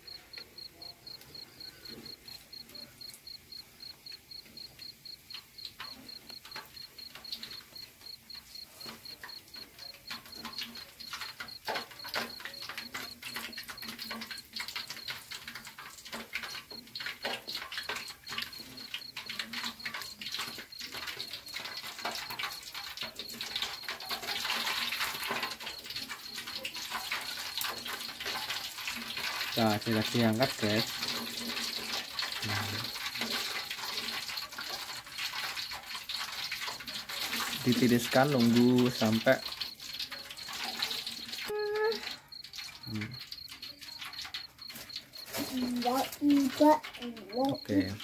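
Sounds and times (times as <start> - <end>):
cricket chirping: 0.0 - 48.0
food deep-frying in oil: 0.0 - 48.0.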